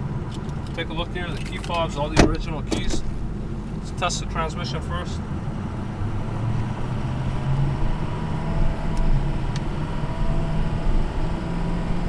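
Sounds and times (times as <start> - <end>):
diesel truck engine accelerating: 0.0 - 12.0.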